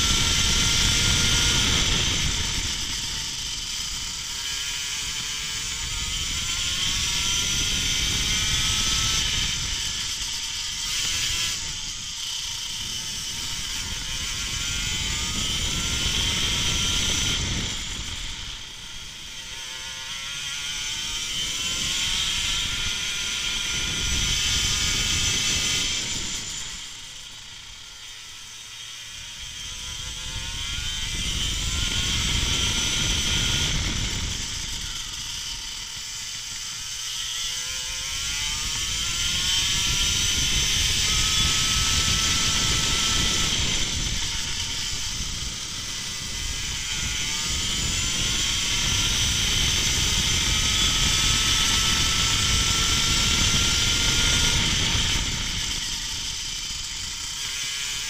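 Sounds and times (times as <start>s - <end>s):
wind noise: 0.0s - 28.1s, 28.8s - 58.0s.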